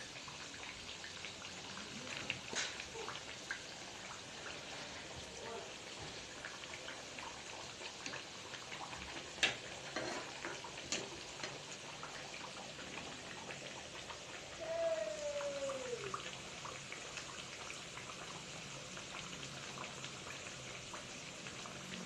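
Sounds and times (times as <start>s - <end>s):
oil sizzling with pops: 0.0s - 22.0s.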